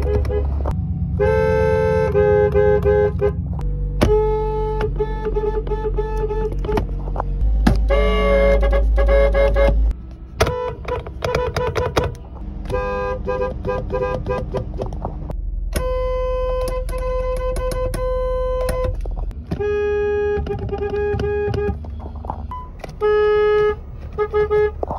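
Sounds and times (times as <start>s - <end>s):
car horns honking: 0.0s - 15.1s, 15.7s - 24.9s.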